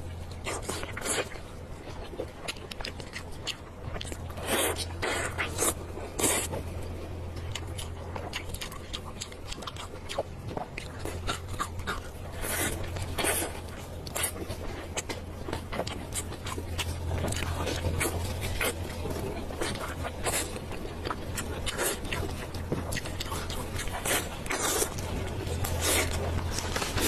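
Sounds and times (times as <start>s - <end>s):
person chewing: 0.0s - 27.0s
steady low hum: 0.0s - 27.0s.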